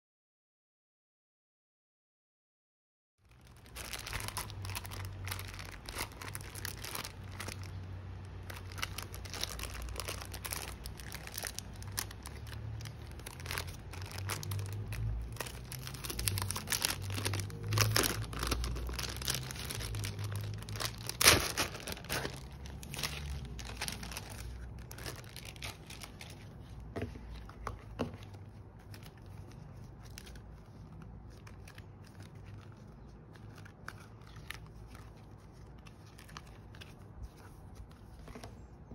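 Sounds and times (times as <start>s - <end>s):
plastic packaging crinkling: 3.2s - 38.9s.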